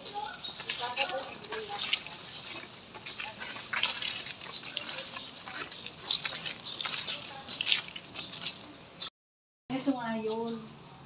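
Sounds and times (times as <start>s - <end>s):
footsteps crunching on gravel: 0.0s - 9.1s.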